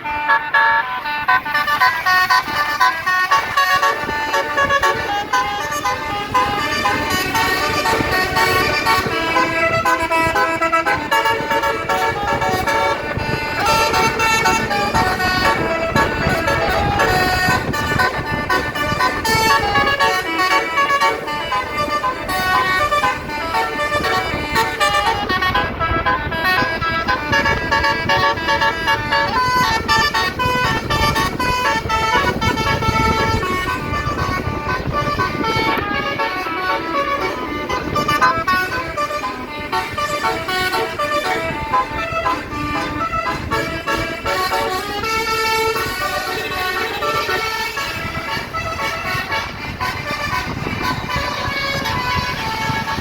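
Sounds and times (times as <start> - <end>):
bus horn playing a tune: 0.0 - 53.0.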